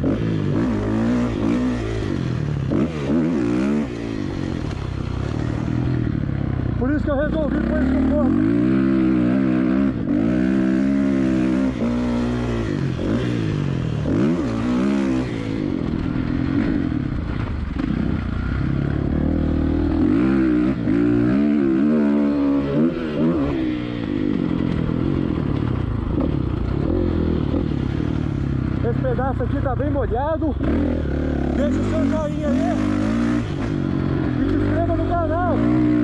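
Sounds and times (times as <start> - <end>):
motocross engine revving: 0.0 - 36.0.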